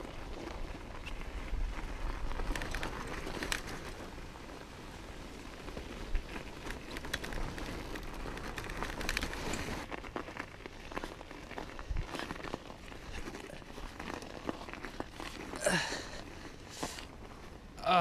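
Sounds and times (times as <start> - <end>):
bike tires crunching over snow: 0.0 - 18.0.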